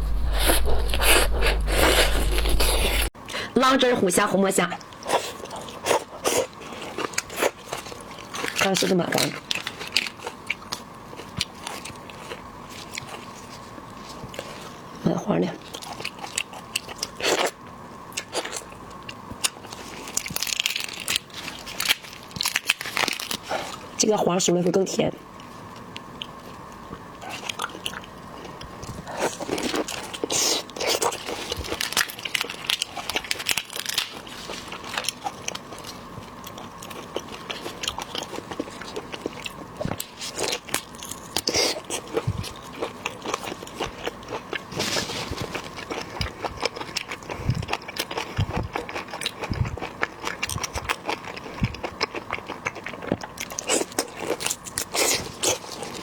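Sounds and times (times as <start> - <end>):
chewing: 4.8 - 14.9, 15.6 - 24.0, 25.4 - 56.0.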